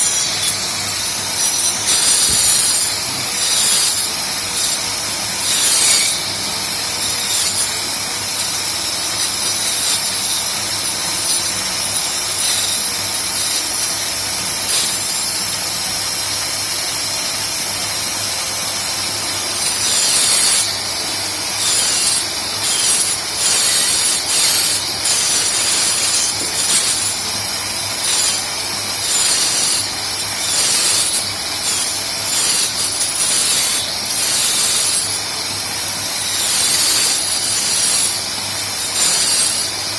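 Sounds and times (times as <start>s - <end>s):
machine cutting wood: 0.0s - 39.9s
power tool motor whining: 0.0s - 39.9s.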